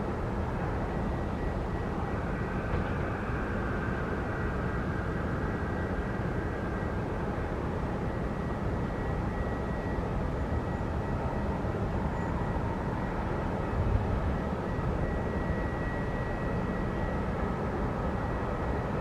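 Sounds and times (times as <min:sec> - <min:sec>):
jet airliner rumble and whine: 0:00.0 - 0:19.0.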